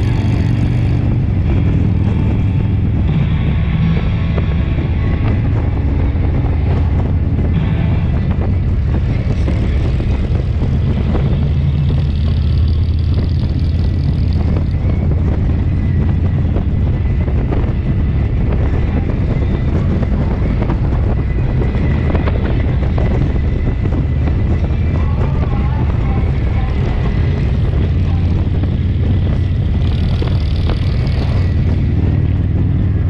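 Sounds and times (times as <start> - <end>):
motorcycle engine rumble: 0.0 - 33.0
wind noise on microphone: 0.0 - 33.0.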